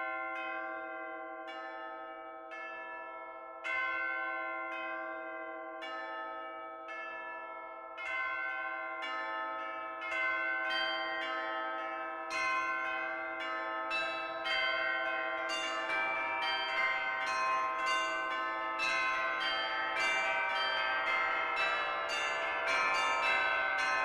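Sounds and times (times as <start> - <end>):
church bells ringing: 0.0 - 24.0.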